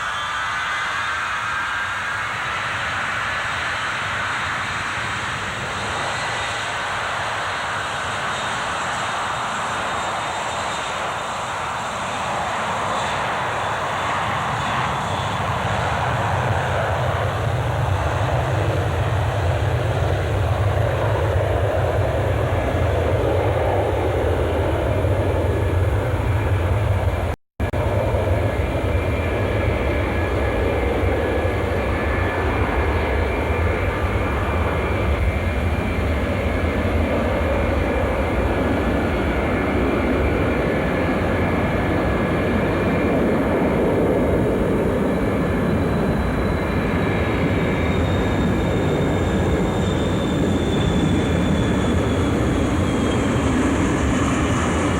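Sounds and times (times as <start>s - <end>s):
jet engines rumbling: 0.0s - 54.9s.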